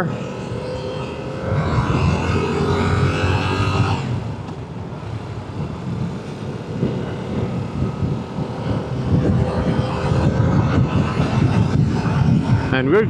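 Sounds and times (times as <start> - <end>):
motorcycle engine cruising: 0.0 - 13.0
road and wind noise: 0.0 - 13.0.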